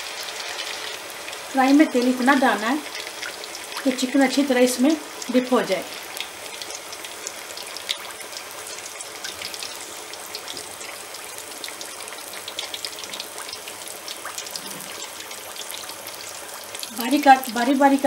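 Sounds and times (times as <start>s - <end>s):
chicken deep-frying in hot oil: 0.0s - 18.0s.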